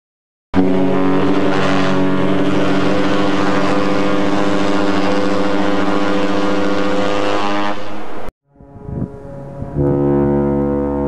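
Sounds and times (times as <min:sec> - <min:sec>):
ship horn blast: 0:00.6 - 0:11.0.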